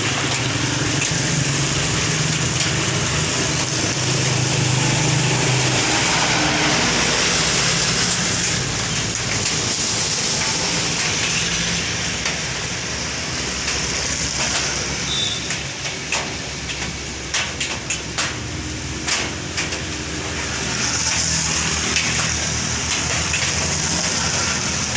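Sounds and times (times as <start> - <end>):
road and wind noise: 0.0 - 24.9.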